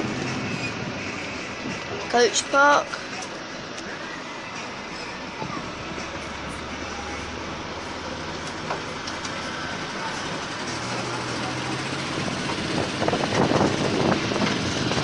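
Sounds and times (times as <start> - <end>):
road noise: 0.0 - 15.0
train engine: 0.0 - 15.0.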